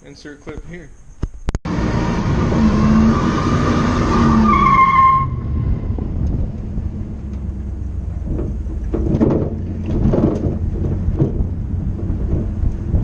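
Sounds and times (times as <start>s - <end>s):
car engine and exhaust rumbling: 1.1s - 13.0s.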